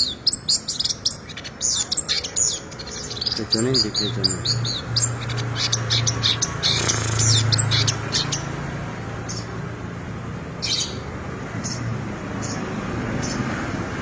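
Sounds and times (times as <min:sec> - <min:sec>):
bird chirping: 0:00.0 - 0:08.6, 0:10.6 - 0:13.5.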